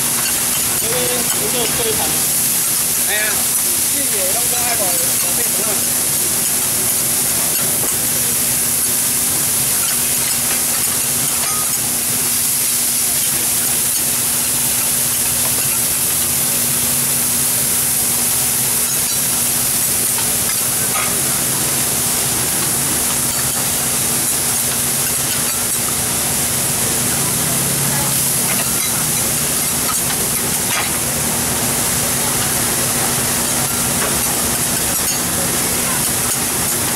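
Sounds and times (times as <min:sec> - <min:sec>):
vegetables sizzling on a griddle: 0:00.0 - 0:36.9.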